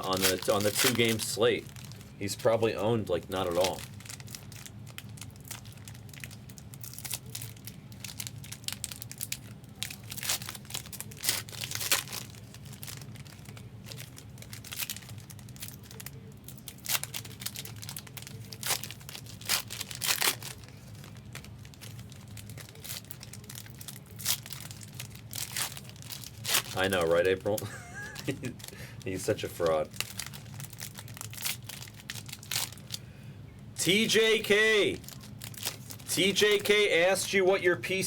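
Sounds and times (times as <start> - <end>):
foil wrappers crinkling and tearing: 0.0 - 33.0, 33.8 - 38.0
steady low hum: 0.0 - 38.0.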